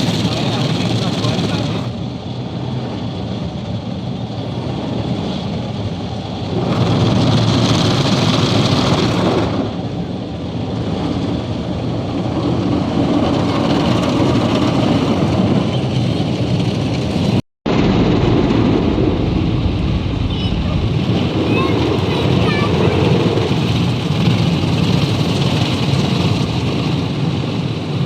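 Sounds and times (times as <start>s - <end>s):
car wash rushing and rumbling: 0.0s - 28.0s.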